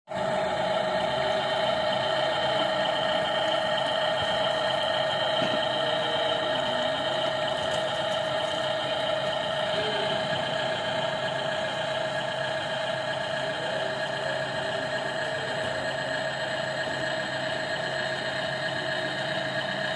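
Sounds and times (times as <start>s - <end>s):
high-pitched electric motor whine: 0.2s - 19.9s.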